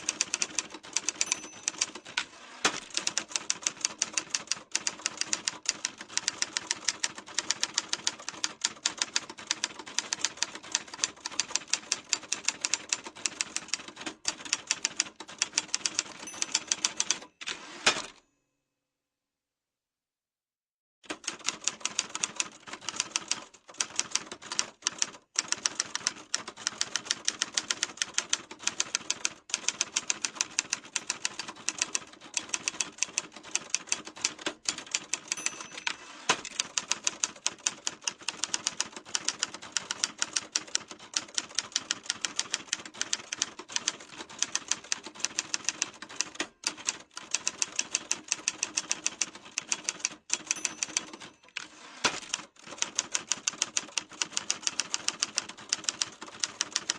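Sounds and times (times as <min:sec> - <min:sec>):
typewriter keys clacking: 0:00.0 - 0:18.1, 0:21.1 - 0:56.9.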